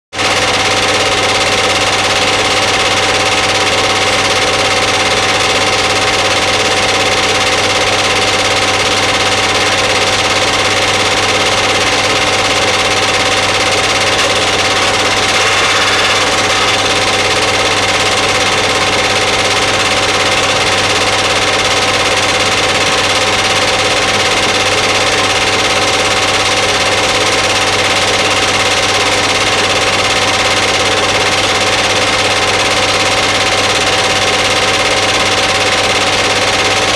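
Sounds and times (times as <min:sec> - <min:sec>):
film projector whirring: 0:00.2 - 0:36.9.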